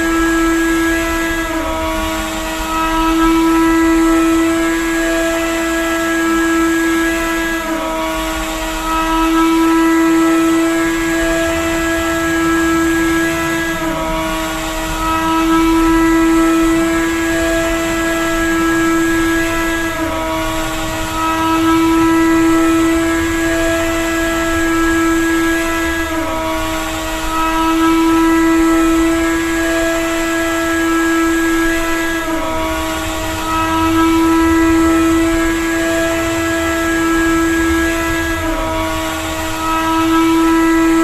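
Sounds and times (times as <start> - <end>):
drone propellers whining: 0.0 - 41.0.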